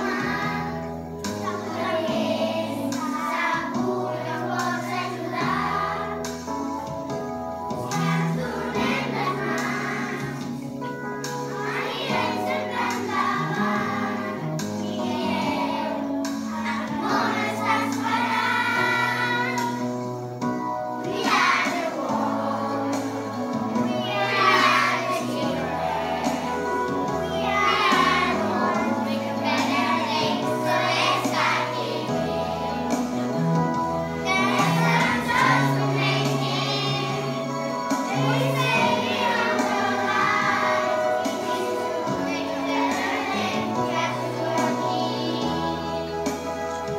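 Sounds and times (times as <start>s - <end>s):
children's choir singing: 0.0s - 20.0s, 21.0s - 46.9s
instrumental accompaniment with bass: 0.0s - 46.9s.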